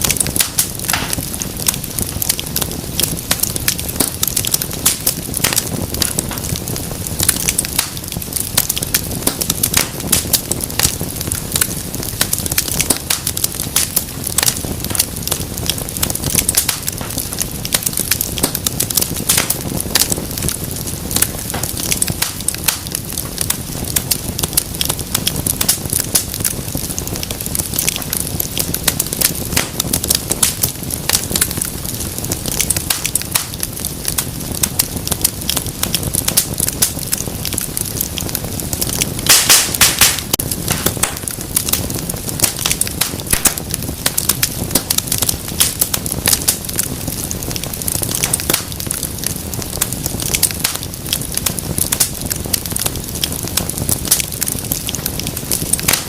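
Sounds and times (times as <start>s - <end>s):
fire flame rumble: 0.0s - 56.0s
wood fire crackling and popping: 0.0s - 56.0s.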